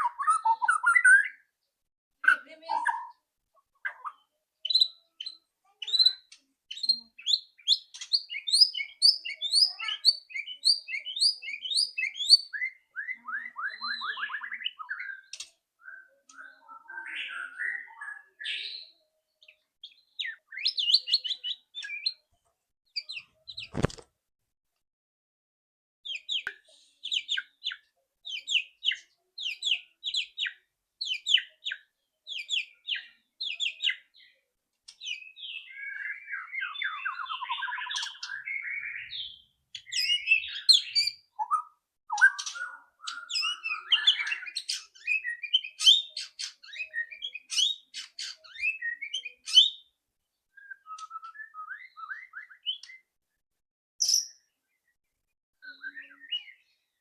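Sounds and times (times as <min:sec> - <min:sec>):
bird warbling song: 0:00.0 - 0:01.5, 0:03.8 - 0:22.2, 0:26.1 - 0:49.9, 0:50.5 - 0:53.1, 0:54.0 - 0:54.9, 0:55.6 - 0:57.0.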